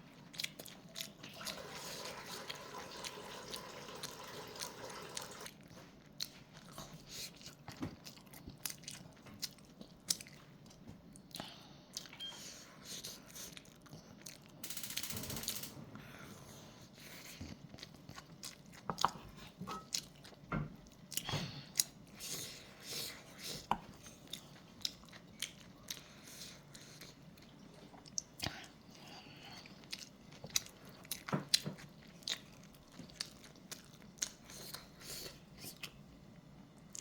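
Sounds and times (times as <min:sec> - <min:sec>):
person chewing food: 0:00.0 - 0:14.6, 0:16.0 - 0:37.0.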